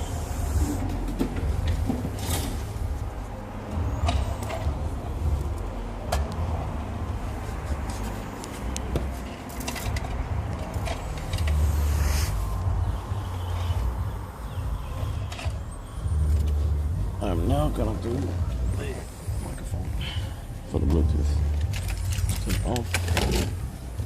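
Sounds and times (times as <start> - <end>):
steady low rumble: 0.0 - 22.5.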